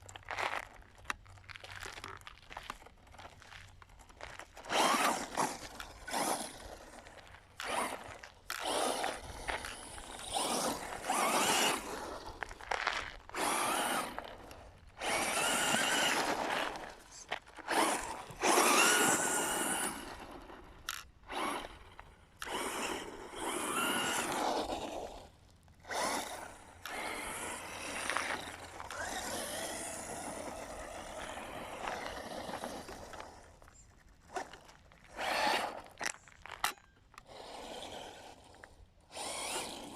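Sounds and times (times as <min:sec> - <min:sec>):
tyres on loose dirt: 0:00.0 - 0:39.9
electric motor whining: 0:04.6 - 0:12.7, 0:13.3 - 0:33.7, 0:34.3 - 0:36.2, 0:37.2 - 0:39.9.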